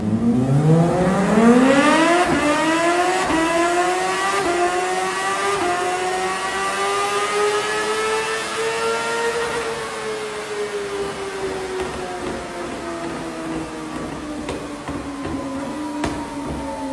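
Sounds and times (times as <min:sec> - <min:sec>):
motorcycle engine accelerating: 0:00.0 - 0:16.9.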